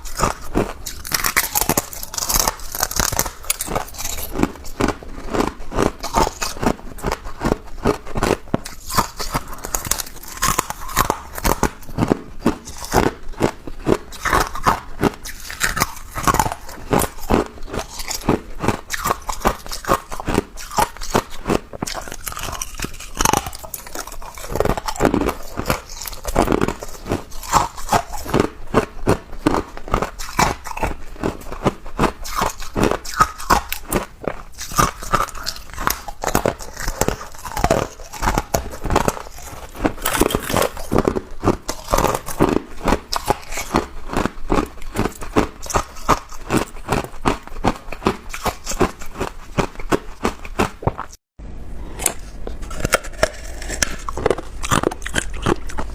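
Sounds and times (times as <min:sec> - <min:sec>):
ice being chewed: 0:00.0 - 0:51.2, 0:51.9 - 0:55.9.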